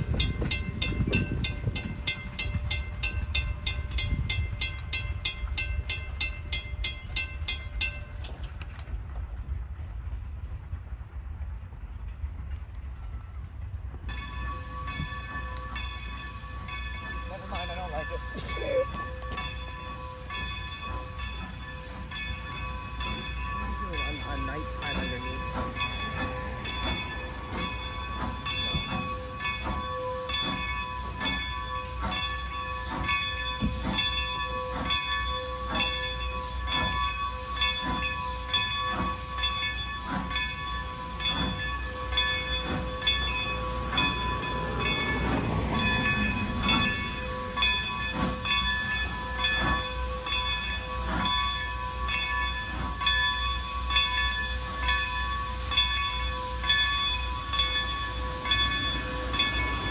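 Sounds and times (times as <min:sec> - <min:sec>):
crossing warning bell ringing: 0:00.0 - 0:09.0, 0:14.0 - 0:59.9
steam locomotive rumble: 0:00.0 - 0:59.9.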